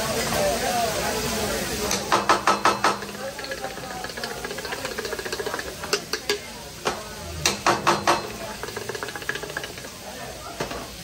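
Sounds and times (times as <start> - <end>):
food sizzling: 0.0 - 11.0
metal spatula clacking on griddle: 1.9 - 10.9.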